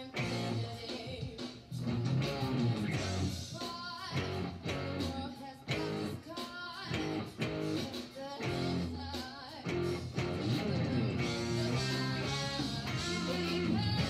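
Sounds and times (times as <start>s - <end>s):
electric guitar playing: 0.0s - 0.8s, 1.8s - 6.2s, 6.9s - 14.0s.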